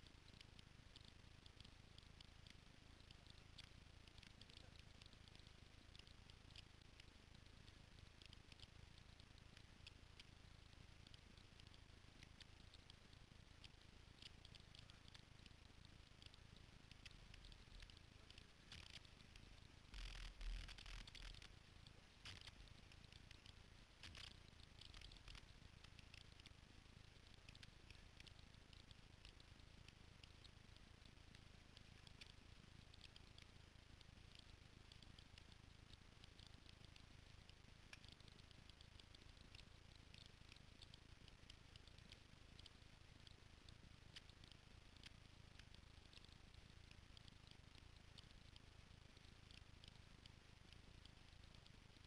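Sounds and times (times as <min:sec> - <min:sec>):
light scattered ticks: 0:00.0 - 0:52.0.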